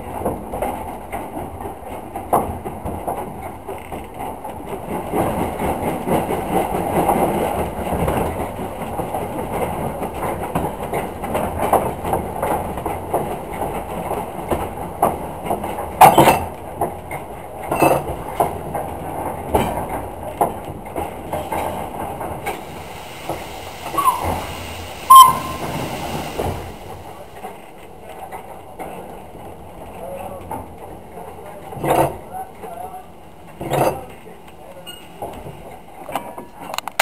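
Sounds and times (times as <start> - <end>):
train rumbling on track: 0.0 - 37.0
wheels clicking over rail joints: 0.0 - 37.0.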